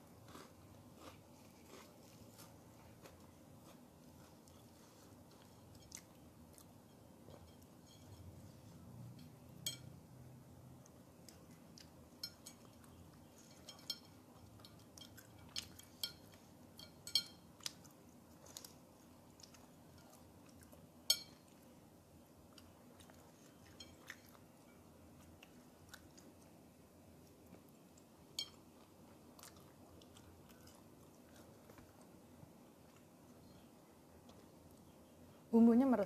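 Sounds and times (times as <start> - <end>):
person chewing food: 0.0 - 10.0, 10.6 - 35.1.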